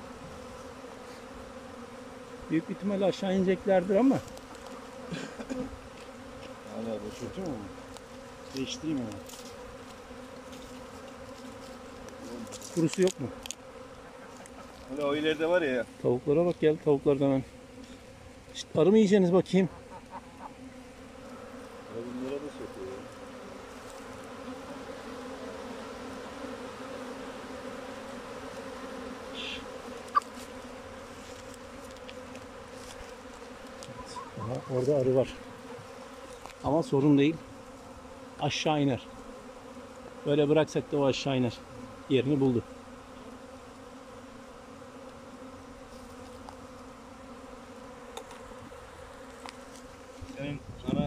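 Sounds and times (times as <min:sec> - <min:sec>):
bee swarm buzzing: 0:00.0 - 0:51.0.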